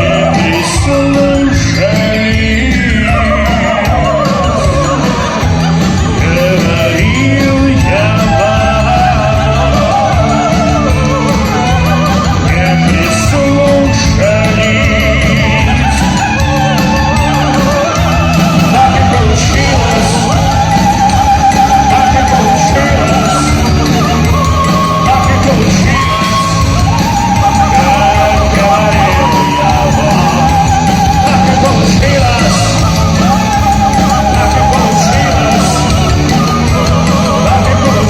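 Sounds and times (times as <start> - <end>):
live band playing: 0.0 - 38.0
person singing with vibrato: 0.0 - 38.0.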